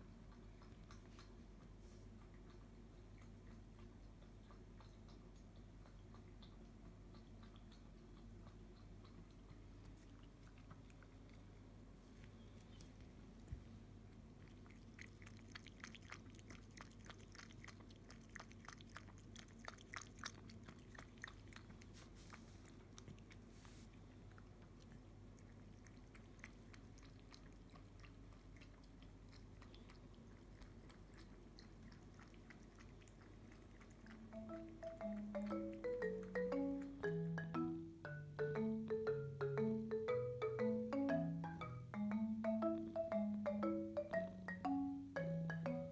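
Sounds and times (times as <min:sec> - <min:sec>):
kitten lapping milk: 0:00.0 - 0:37.0
low steady hum: 0:00.0 - 0:45.9.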